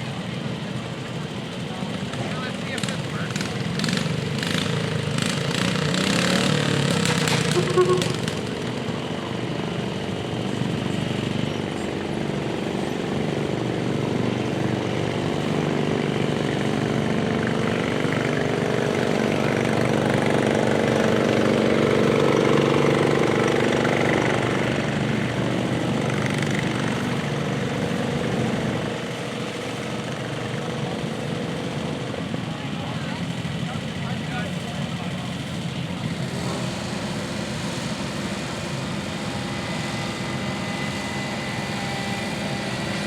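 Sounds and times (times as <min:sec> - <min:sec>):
garden tractor engine running: 0:00.0 - 0:43.0.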